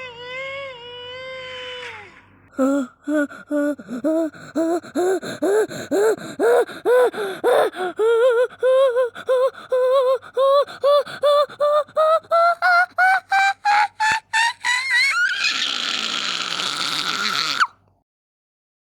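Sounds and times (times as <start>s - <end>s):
person gasping ah sounds: 2.5s - 17.8s.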